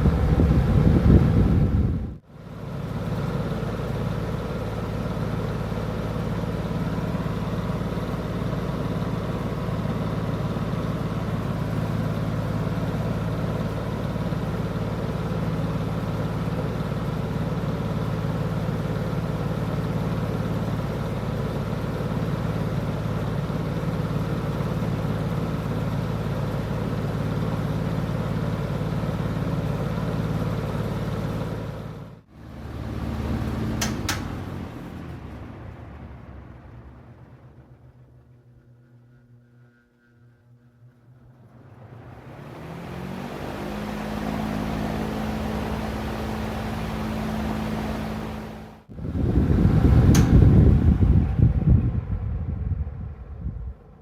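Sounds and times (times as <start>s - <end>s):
box fan running: 0.0s - 54.0s.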